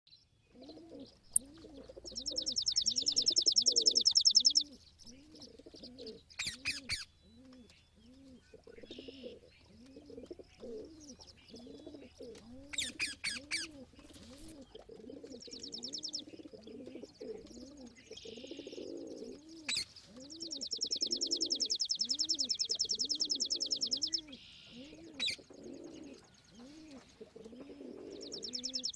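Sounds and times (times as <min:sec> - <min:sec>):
small birds chirping: 0:00.1 - 0:28.9
pigeons cooing: 0:00.5 - 0:28.9
high rapid bird trills: 0:00.6 - 0:07.4, 0:08.4 - 0:28.9.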